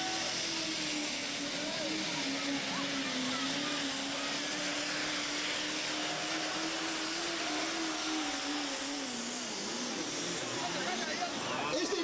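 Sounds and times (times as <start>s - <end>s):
pulling vehicle engine running hard: 0.0s - 12.0s.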